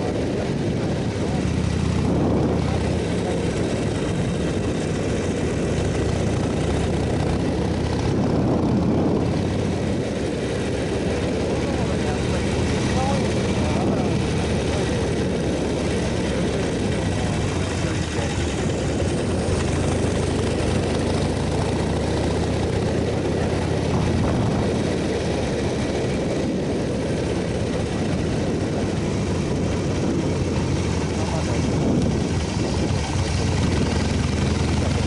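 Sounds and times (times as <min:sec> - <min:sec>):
motorcycle engine running: 0:00.0 - 0:35.0
road noise: 0:00.0 - 0:35.0
wind: 0:00.0 - 0:35.0.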